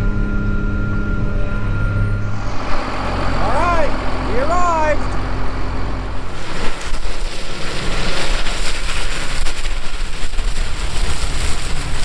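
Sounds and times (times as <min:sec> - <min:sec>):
tractor shredding dry stalks: 0:02.3 - 0:12.0.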